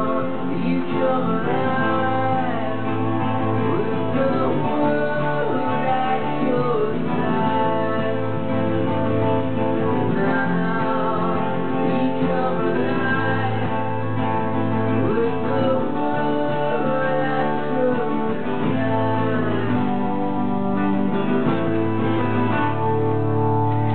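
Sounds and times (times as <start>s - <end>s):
man singing: 0.0s - 21.4s
acoustic guitars playing: 0.0s - 23.9s.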